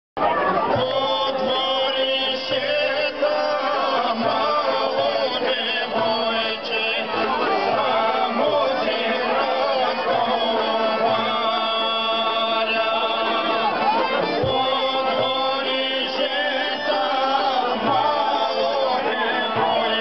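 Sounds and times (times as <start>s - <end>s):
plucked lute: 0.2s - 20.0s
men singing folk song: 0.3s - 20.0s.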